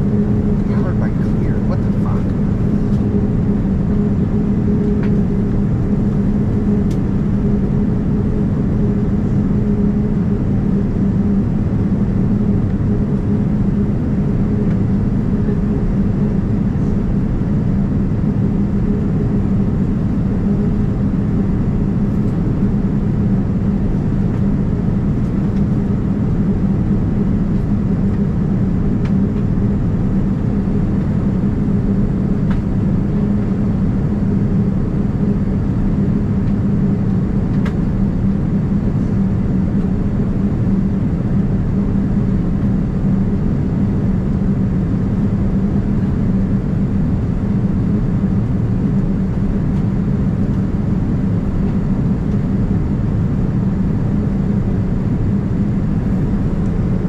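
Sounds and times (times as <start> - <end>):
airplane cabin engine noise: 0.0 - 57.0.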